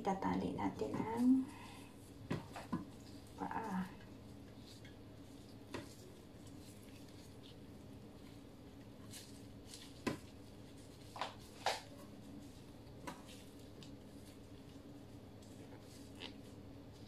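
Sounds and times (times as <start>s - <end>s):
steady low hum: 0.0s - 17.0s
knocks and squishes of handling chicken: 0.8s - 17.0s.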